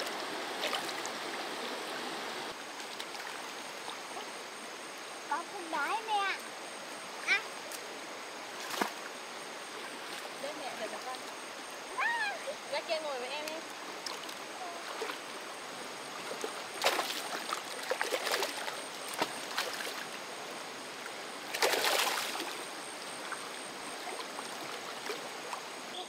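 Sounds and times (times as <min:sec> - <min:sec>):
water splashes: 0:00.0 - 0:26.0.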